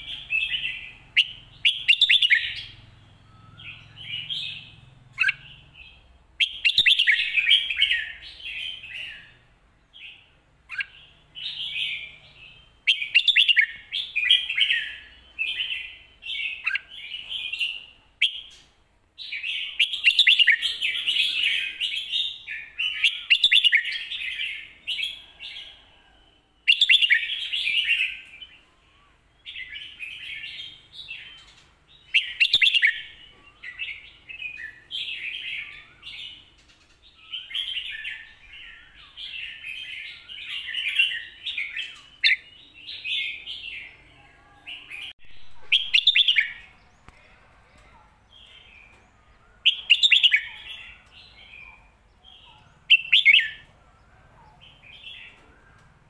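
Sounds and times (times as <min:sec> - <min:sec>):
bird warbling song: 0:00.0 - 0:56.0.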